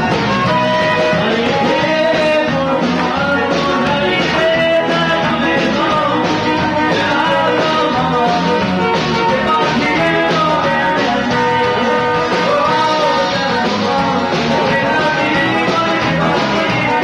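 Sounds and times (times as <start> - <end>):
guitar: 0.0 - 17.0
live band playing: 0.0 - 17.0
person singing: 0.0 - 17.0.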